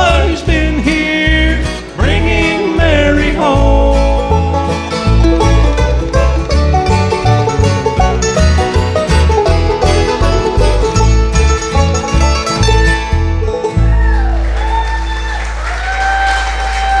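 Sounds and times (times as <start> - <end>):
banjo: 0.0 - 14.4
bluegrass band playing: 0.0 - 14.8
guitar: 0.0 - 15.4
driving bass line: 0.0 - 15.5.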